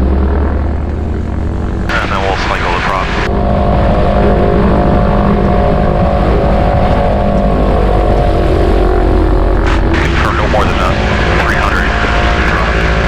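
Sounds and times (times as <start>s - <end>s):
propeller pitch changing: 0.0s - 13.0s
radial aircraft engine running: 0.0s - 13.0s.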